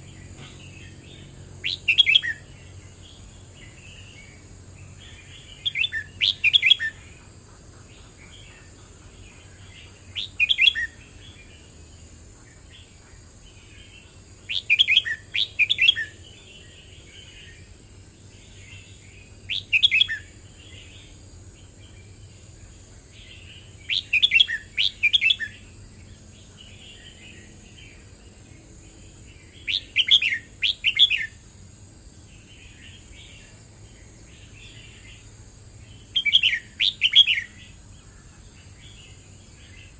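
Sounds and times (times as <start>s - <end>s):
bird singing bright phrases: 0.0s - 31.5s, 32.2s - 39.9s.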